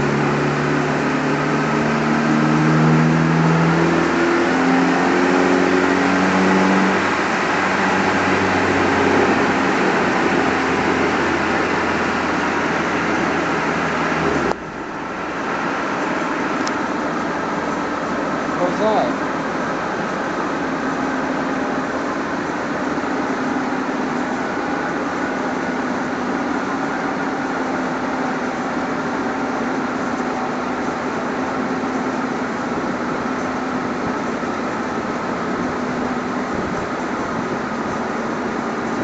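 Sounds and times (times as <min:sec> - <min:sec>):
car engine revving hard: 0:00.0 - 0:39.0
steady rushing noise: 0:06.9 - 0:39.0.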